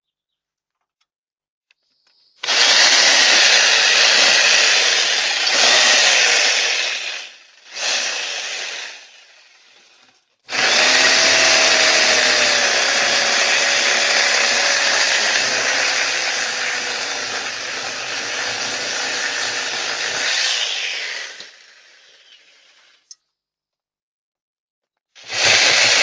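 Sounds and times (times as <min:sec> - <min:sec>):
power saw cutting wood: 0:02.4 - 0:23.0, 0:25.2 - 0:26.0.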